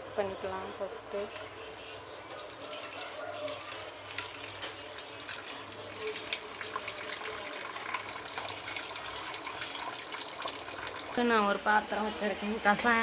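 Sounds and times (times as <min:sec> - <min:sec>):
water running and splashing: 0:01.6 - 0:13.0.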